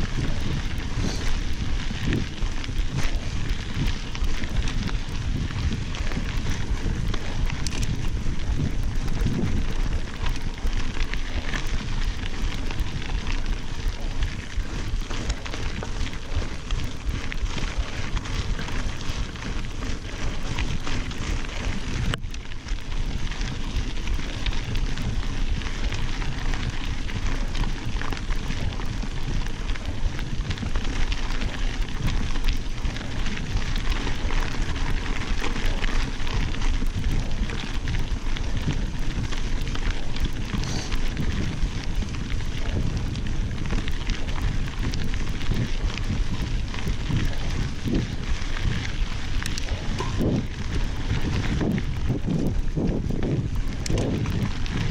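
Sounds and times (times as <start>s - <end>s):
bike tyres on gravel: 0.0s - 54.9s
wind noise on microphone: 0.0s - 54.9s.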